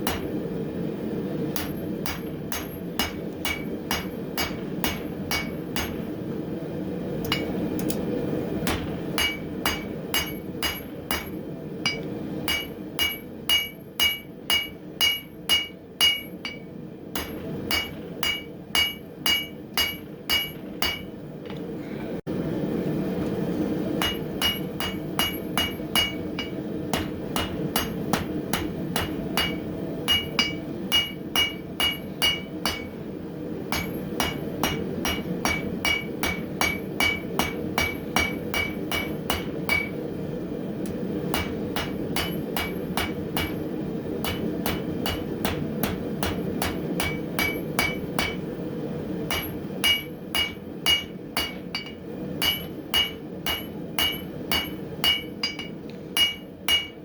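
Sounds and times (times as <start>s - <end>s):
hammer striking steel on anvil: 0.0s - 0.4s, 1.5s - 6.1s, 7.2s - 8.0s, 8.6s - 21.2s, 23.9s - 33.0s, 33.7s - 40.0s, 41.3s - 48.5s, 49.2s - 57.0s.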